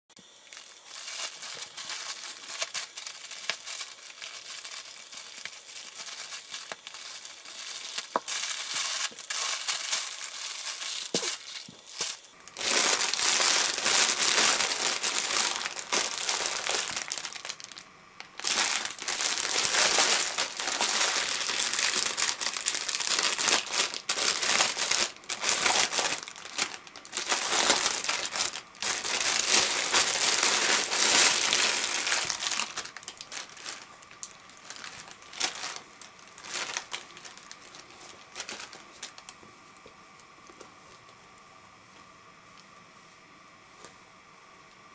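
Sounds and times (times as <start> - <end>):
plastic bag crinkling: 0.2 - 39.4
plastic mailer being opened: 0.5 - 39.3.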